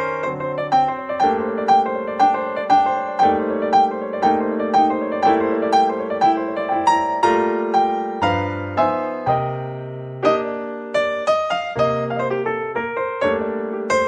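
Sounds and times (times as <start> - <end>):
calm instrumental music: 0.0 - 14.0.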